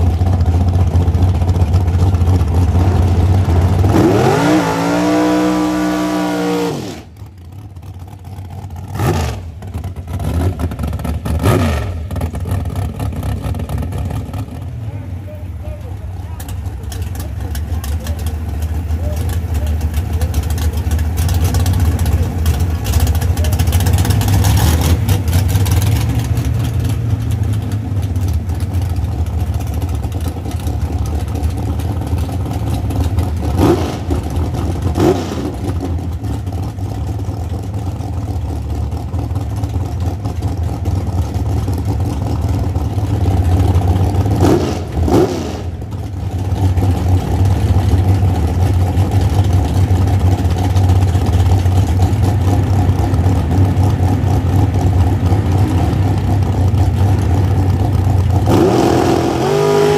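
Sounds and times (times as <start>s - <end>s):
engine revs: 0.0s - 7.3s, 8.0s - 59.9s
car engines rumbling: 0.0s - 59.9s.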